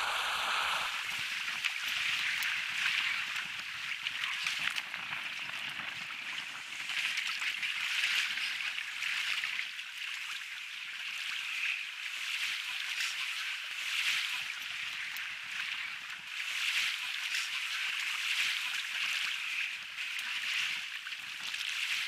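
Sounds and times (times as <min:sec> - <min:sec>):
choppy sea water splashing: 0:00.0 - 0:22.0.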